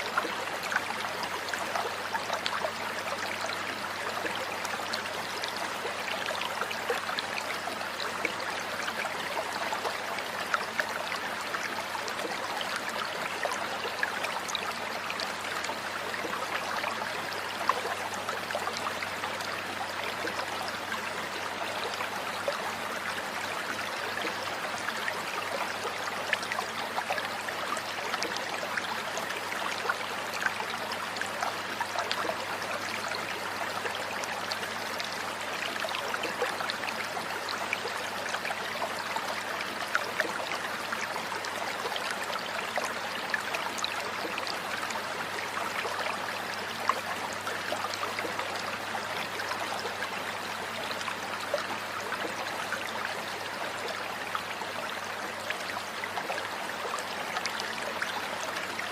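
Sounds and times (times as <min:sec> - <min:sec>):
trickling stream water: 0:00.0 - 0:58.9.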